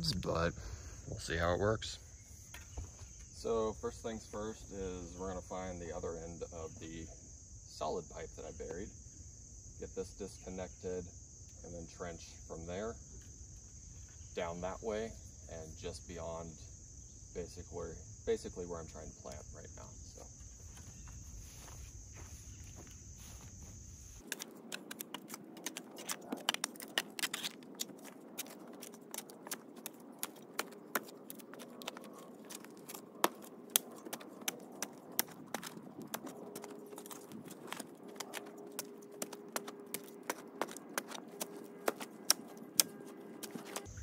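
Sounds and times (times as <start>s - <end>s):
crickets chirping: 0.0s - 44.0s.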